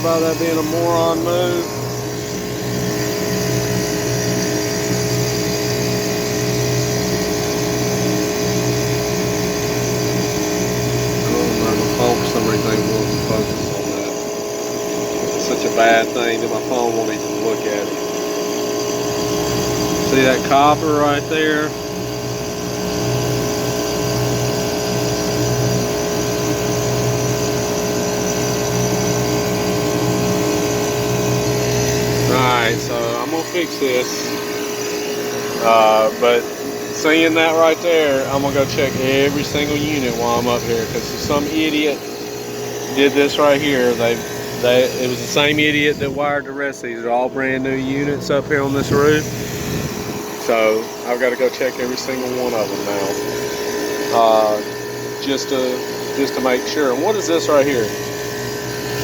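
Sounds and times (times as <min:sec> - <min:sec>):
fan noise: 0:00.0 - 0:59.0
machine hum: 0:00.0 - 0:59.0.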